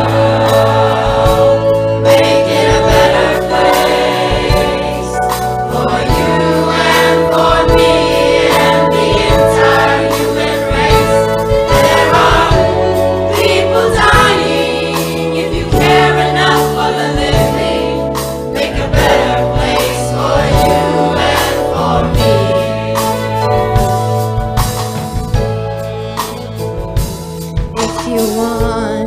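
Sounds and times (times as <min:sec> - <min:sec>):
choir singing gospel song: 0:00.0 - 0:25.3
band accompaniment with bass and beat: 0:00.0 - 0:29.0.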